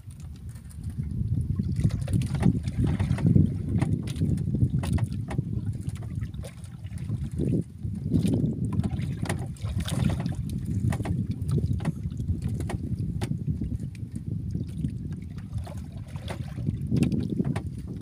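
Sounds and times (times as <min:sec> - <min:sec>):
water lapping against boat hull: 0:00.0 - 0:18.0
wind noise on microphone: 0:00.0 - 0:18.0.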